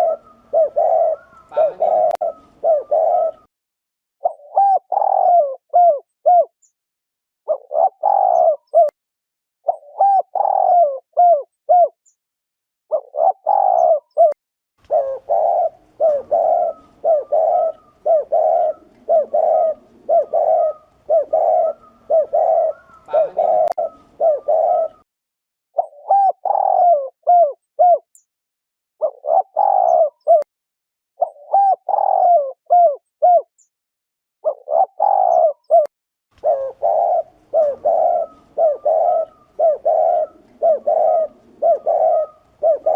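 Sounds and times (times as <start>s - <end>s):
dove cooing: 0.0s - 3.5s, 4.2s - 6.5s, 7.5s - 8.9s, 9.7s - 12.0s, 12.9s - 25.0s, 25.8s - 28.1s, 29.0s - 30.5s, 31.2s - 33.5s, 34.4s - 42.9s.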